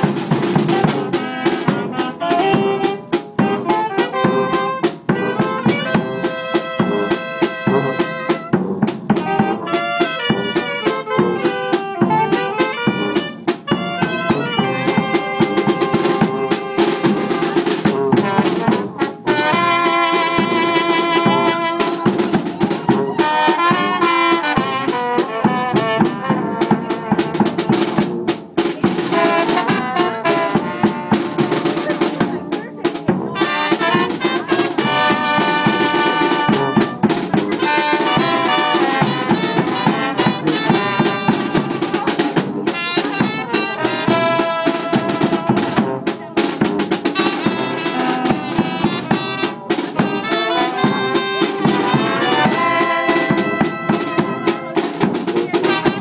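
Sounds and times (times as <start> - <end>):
bass drum and snare drum beat: 0.0 - 56.0
trumpets and saxophones: 0.0 - 56.0.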